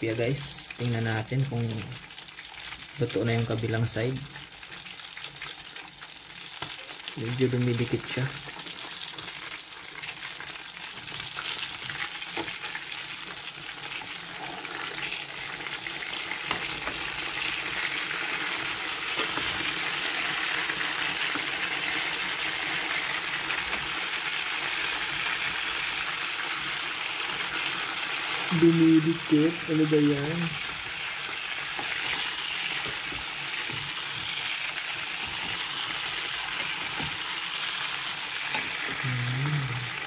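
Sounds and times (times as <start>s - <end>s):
fish sizzling in hot oil: 0.0s - 40.0s.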